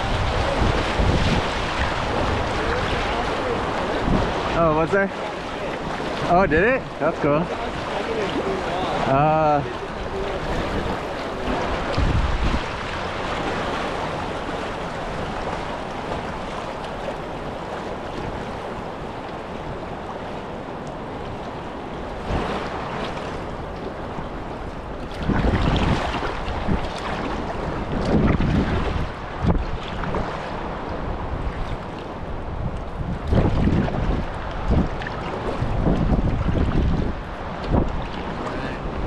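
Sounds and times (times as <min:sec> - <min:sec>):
wind buffeting microphone: 0:00.0 - 0:05.1, 0:05.7 - 0:20.1, 0:20.7 - 0:39.0
river water rushing: 0:00.0 - 0:39.0.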